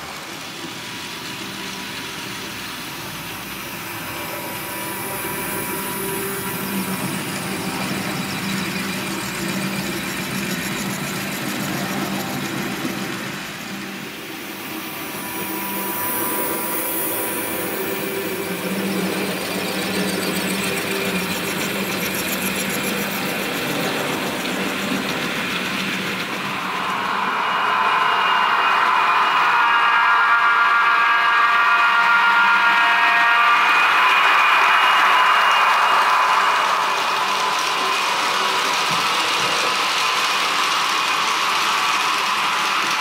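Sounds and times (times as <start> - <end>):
model train motors humming: 0.0 - 43.0.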